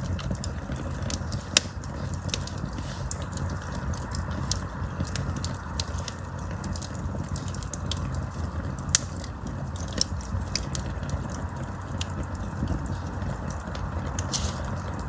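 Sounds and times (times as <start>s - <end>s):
burning wood crackling and popping: 0.0s - 15.0s
low rush of flames: 0.0s - 15.0s.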